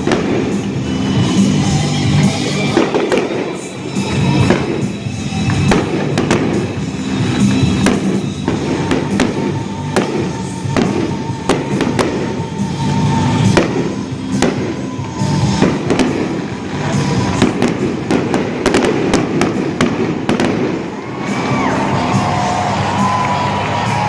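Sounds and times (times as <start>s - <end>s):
fireworks bangs and crackles: 0.0s - 24.0s
loud music: 0.0s - 24.0s.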